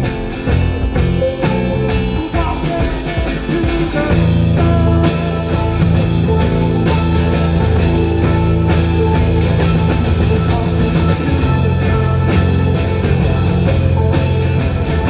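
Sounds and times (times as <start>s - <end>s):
bass guitar: 0.0s - 15.0s
drum kit and cymbals: 0.0s - 15.0s
electric guitar bending notes: 0.0s - 15.0s.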